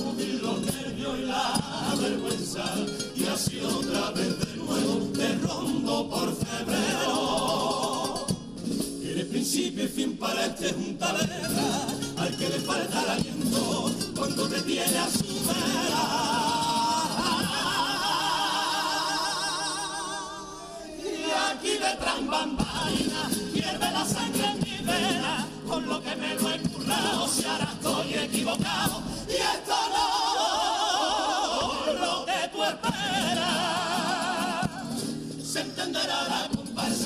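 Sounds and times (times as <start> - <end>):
men singing in harmony: 0.0 - 37.0.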